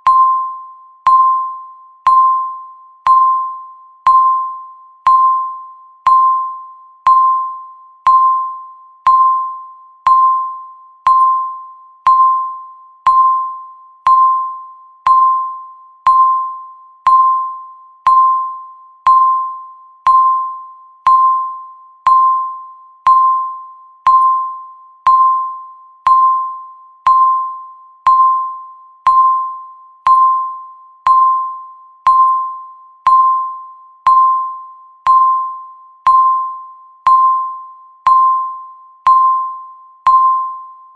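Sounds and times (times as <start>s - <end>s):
countdown timer beeps: 0.0s - 40.9s.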